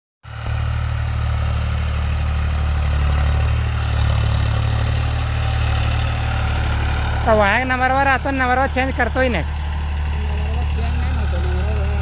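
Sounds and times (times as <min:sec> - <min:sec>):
tractor engine idling: 0:00.3 - 0:12.0.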